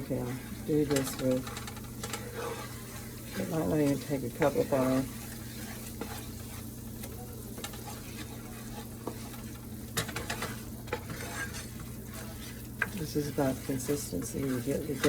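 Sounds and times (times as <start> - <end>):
gravy sizzling in a frying pan: 0.0 - 15.0.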